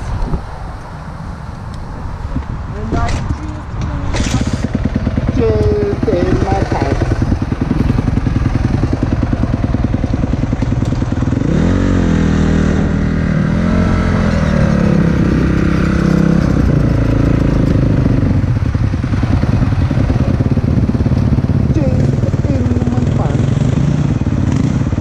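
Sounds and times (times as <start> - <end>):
dirt bike engine revving: 4.1 - 25.0.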